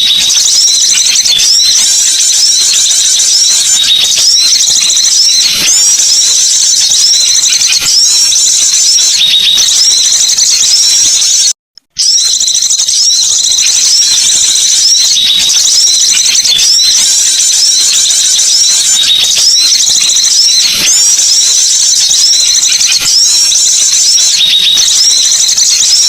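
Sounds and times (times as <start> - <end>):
recorded songbird chirping: 0.0 - 26.0.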